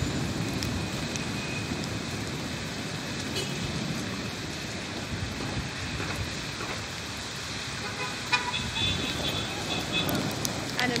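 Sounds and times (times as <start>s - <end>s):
heavy rain hissing: 0.0s - 11.0s
road traffic rumble: 0.0s - 11.0s.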